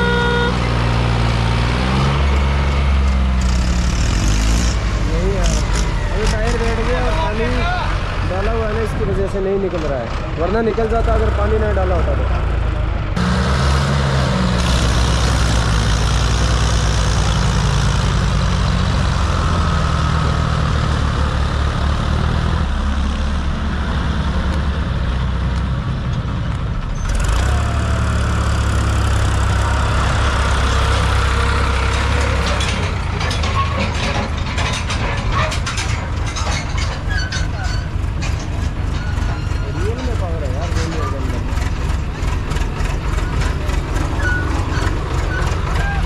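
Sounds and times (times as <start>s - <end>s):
diesel tractor engines under load: 0.0s - 46.0s.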